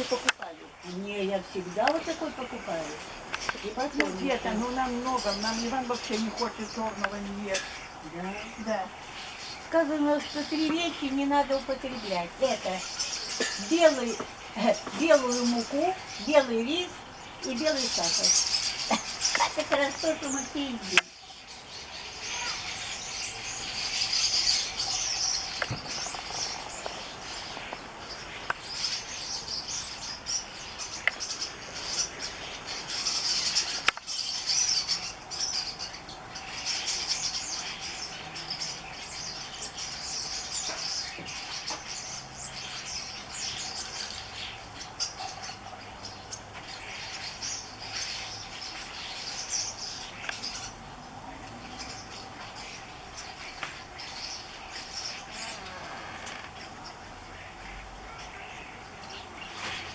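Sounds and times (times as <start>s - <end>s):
flock of birds chattering: 0.0s - 59.9s.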